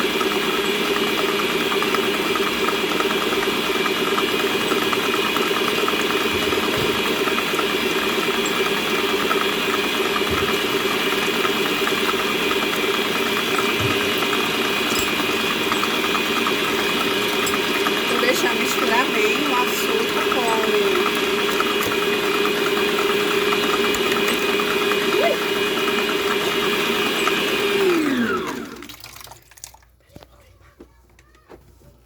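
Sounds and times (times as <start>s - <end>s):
stand mixer motor humming: 0.0s - 29.6s.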